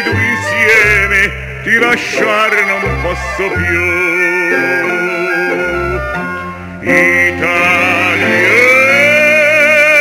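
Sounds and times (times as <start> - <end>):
man singing with vibrato: 0.0 - 10.0
musical accompaniment: 0.0 - 10.0.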